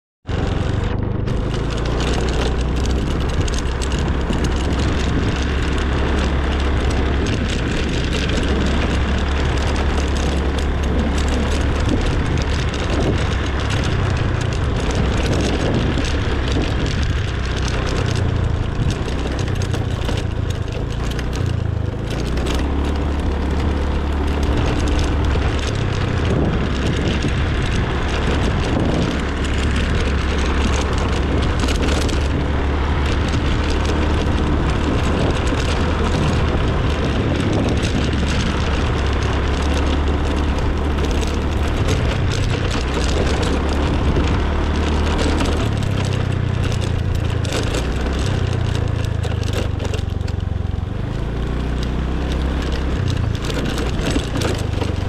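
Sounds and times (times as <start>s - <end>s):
motor scooter engine running: 0.2s - 55.0s
wind rushing over microphone: 0.2s - 55.0s.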